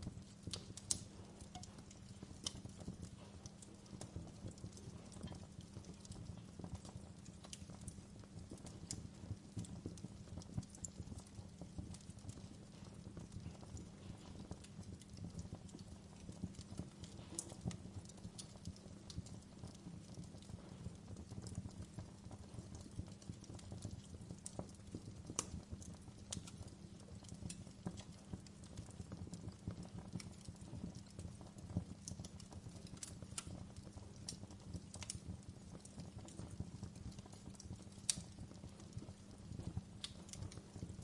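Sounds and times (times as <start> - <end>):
fire pops and snaps: 0.0 - 41.0
low rumble of burning fire: 0.0 - 41.0.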